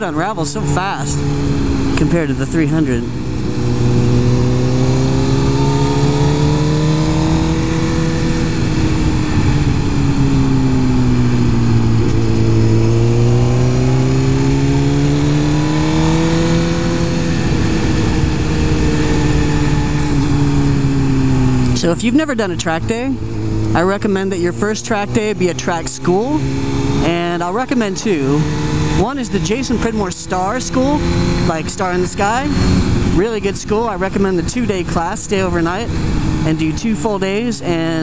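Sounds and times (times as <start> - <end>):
motorcycle engine accelerating: 0.0 - 38.0
wind and road noise: 0.0 - 38.0.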